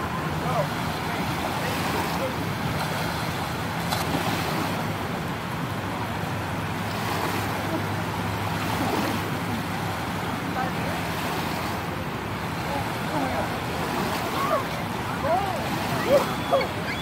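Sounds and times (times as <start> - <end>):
small waves washing over shore: 0.0 - 17.0.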